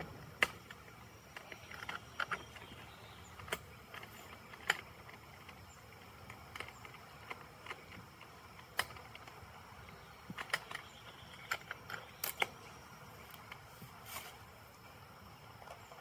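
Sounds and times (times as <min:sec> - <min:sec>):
clicks and knocks of wooden beehive: 0:00.0 - 0:13.7.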